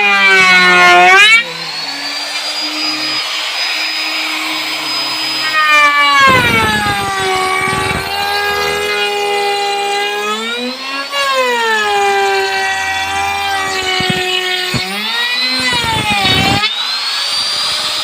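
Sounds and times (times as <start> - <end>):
electric drill running: 0.1 - 18.0
drill bit grinding rattle: 1.4 - 11.1, 11.8 - 18.0.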